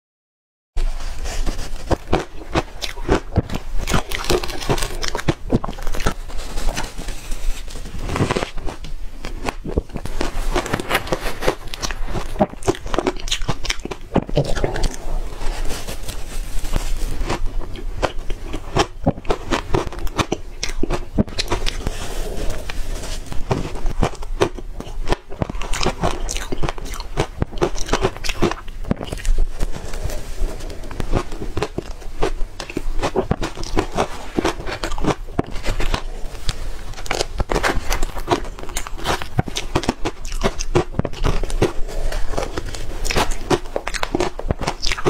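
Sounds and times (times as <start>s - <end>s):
crunching shaved ice: 1.1s - 45.0s.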